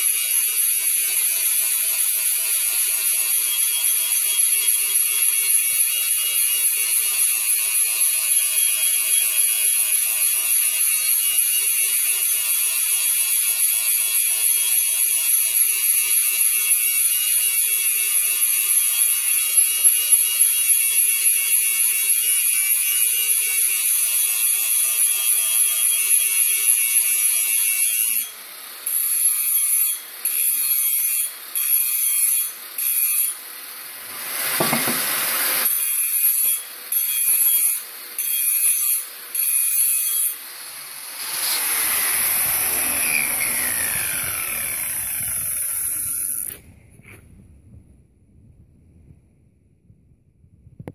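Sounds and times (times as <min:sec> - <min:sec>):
angle grinder grinding metal: 0:00.0 - 0:46.6.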